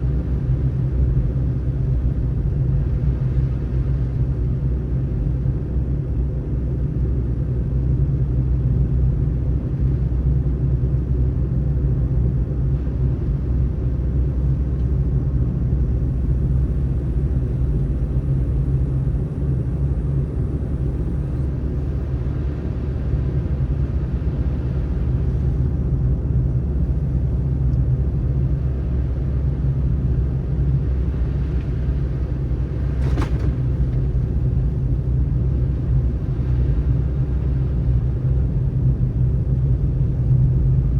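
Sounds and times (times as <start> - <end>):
car driving on snowy road: 0.0 - 40.9.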